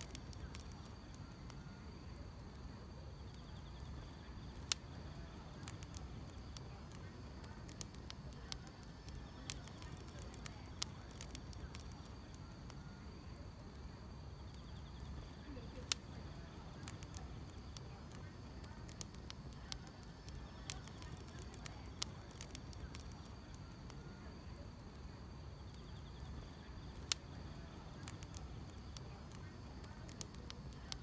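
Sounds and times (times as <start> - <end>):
insects chirping: 0.0 - 31.0
wood fire crackling and popping: 0.0 - 31.0.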